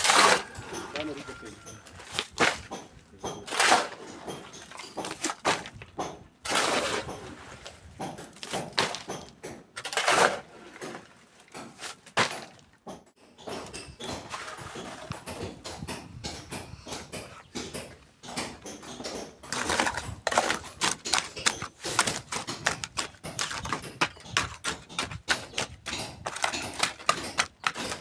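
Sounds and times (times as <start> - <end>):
irregular knocks and thuds: 0.0 - 6.4, 7.1 - 9.8, 10.8 - 28.0
scraping: 0.0 - 12.8, 13.4 - 28.0.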